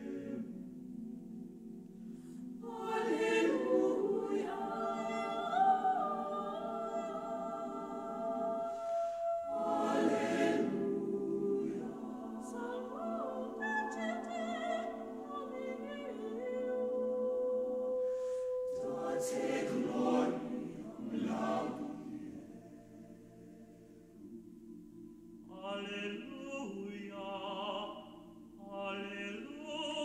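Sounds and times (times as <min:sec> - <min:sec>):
mixed choir singing a cappella: 0:00.0 - 0:00.7, 0:02.6 - 0:24.4, 0:25.5 - 0:30.0
person singing with wide vibrato: 0:00.0 - 0:00.8, 0:02.1 - 0:30.0.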